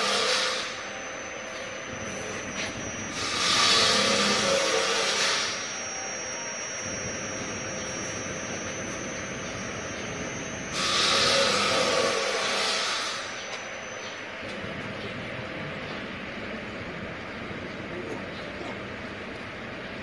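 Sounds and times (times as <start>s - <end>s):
gas oven hissing: 0.0s - 17.9s
faint high whine: 0.0s - 20.0s.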